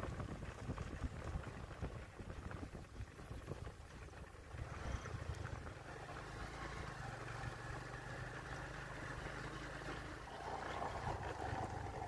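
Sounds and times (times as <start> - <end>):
motorcycle engine running: 0.0 - 12.0
wind and tyre noise: 0.0 - 12.0.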